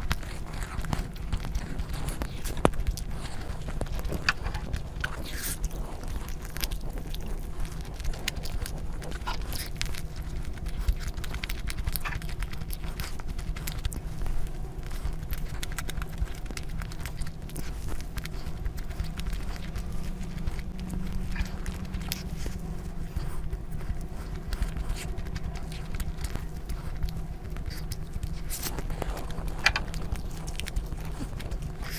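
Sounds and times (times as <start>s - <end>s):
chewing with mouth clicks: 0.0s - 31.9s
steady low rumble: 0.0s - 31.9s.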